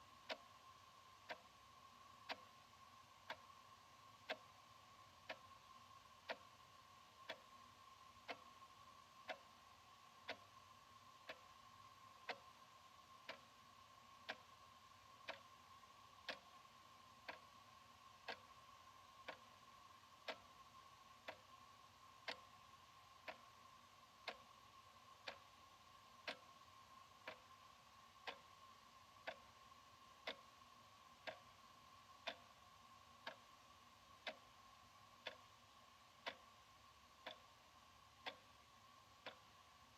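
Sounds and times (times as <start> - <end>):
faint steady tone: 0.0 - 39.9
wall clock ticking: 0.0 - 39.9.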